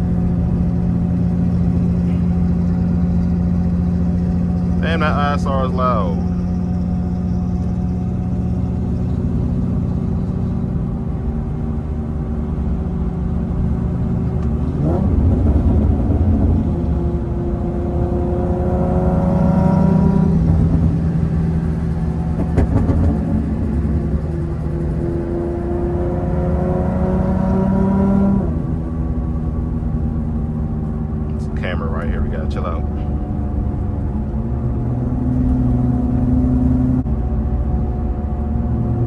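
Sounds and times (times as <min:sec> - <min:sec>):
car exhaust droning and revving: 0:00.0 - 0:39.0.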